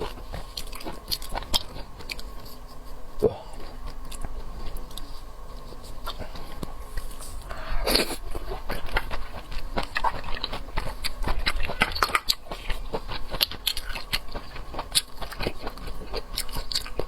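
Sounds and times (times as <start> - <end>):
chewing and smacking: 0.0 - 17.0.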